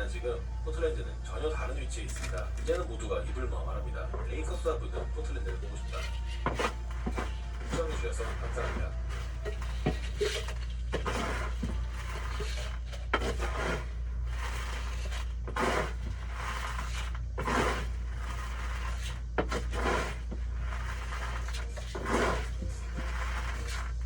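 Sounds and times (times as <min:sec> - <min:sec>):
steady low hum: 0:00.0 - 0:24.0
scoop scraping cat litter: 0:01.5 - 0:24.0.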